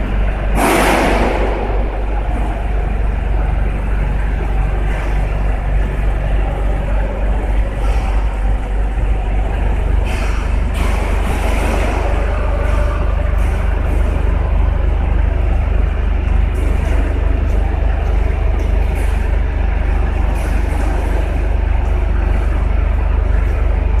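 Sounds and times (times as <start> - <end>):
low machine hum and rumble: 0.0 - 24.0.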